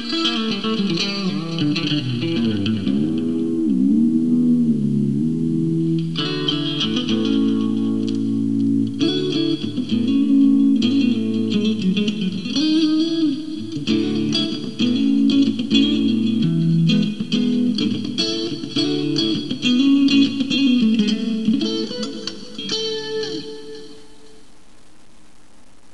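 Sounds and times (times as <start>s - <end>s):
clean electric guitar with tremolo bends: 0.0s - 24.4s.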